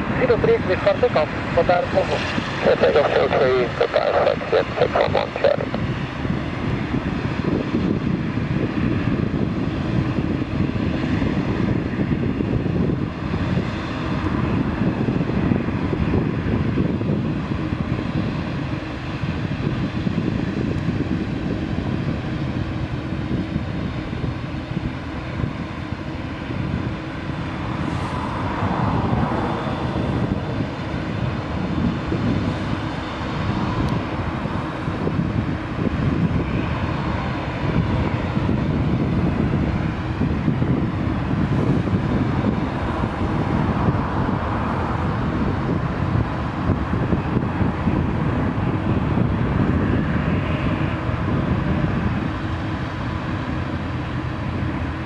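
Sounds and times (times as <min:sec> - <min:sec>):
jet engines rumbling with whine: 0:00.0 - 0:55.0.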